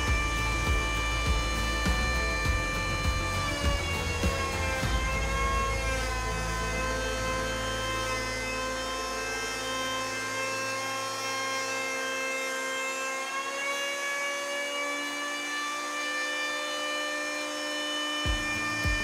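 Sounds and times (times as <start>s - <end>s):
electric planer motor whine: 0.0s - 19.0s.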